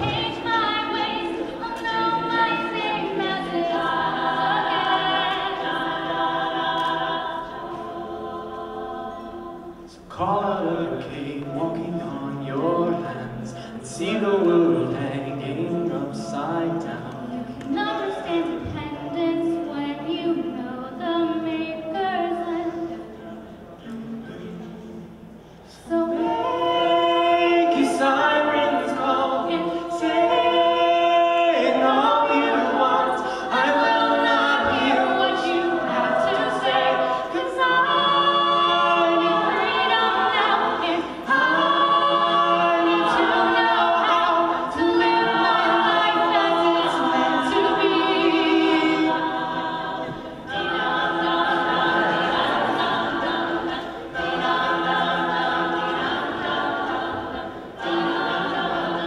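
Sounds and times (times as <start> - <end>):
a cappella group singing in harmony: 0.0 - 59.0.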